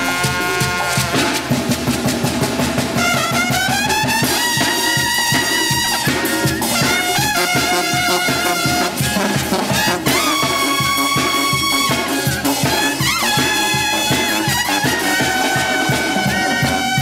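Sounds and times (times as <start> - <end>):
brass band music: 0.0 - 17.0
steady drum beat: 0.0 - 17.0.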